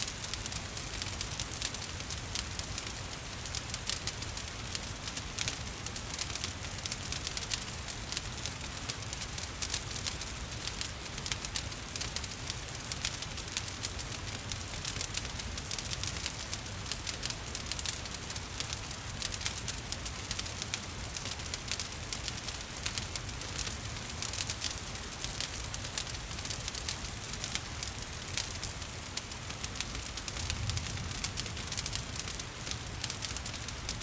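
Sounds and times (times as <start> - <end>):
gentle rain: 0.0 - 34.0
wood fire crackling: 0.0 - 34.0.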